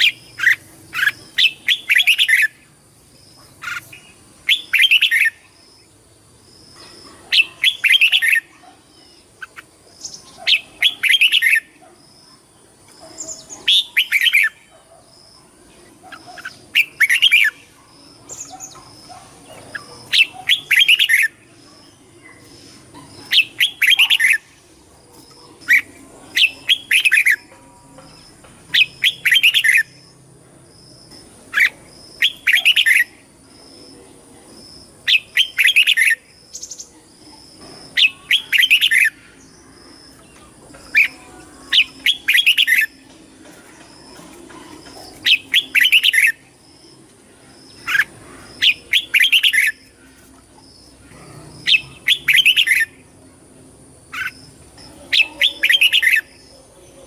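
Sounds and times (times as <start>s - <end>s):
bulbul singing: 0.0s - 53.1s, 54.0s - 57.0s.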